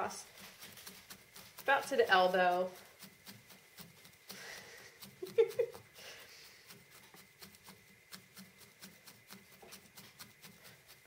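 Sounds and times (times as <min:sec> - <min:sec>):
felting needle poking wool: 0:00.0 - 0:11.0.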